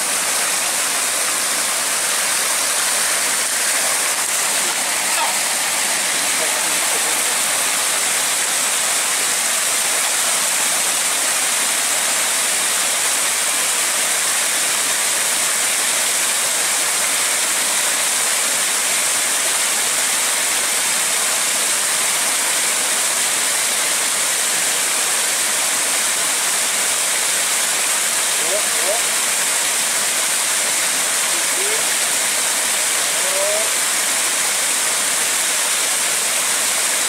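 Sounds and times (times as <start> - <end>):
river water rushing over weir: 0.0 - 37.0.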